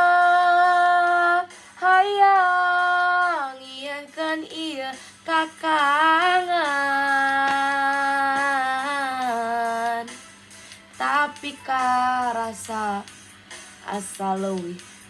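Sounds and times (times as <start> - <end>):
girl singing: 0.0 - 10.2, 11.0 - 13.1.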